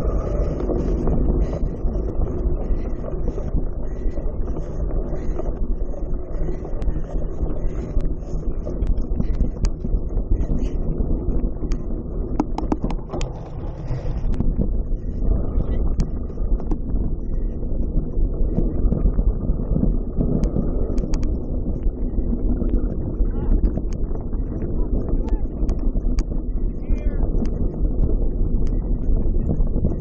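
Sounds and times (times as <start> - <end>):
steady low rumble: 0.0 - 30.0
wind buffeting microphone: 0.0 - 30.0.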